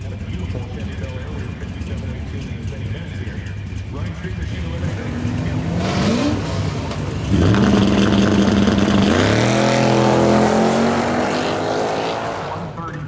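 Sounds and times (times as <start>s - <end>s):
drag car engine revving: 0.0s - 13.0s.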